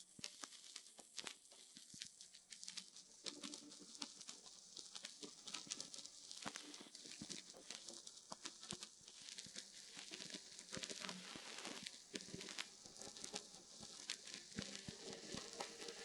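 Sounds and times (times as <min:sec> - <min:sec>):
record crackles and pops: 0:00.0 - 0:16.0
record surface hiss: 0:00.0 - 0:16.0.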